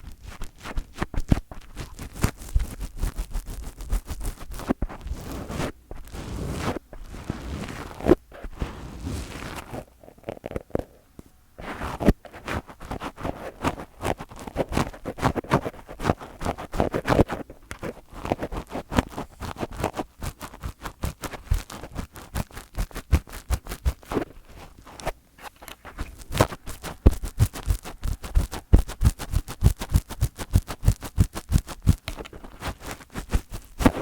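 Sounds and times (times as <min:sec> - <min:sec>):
fingers rubbing on microphone: 0:00.0 - 0:11.0, 0:11.6 - 0:34.0.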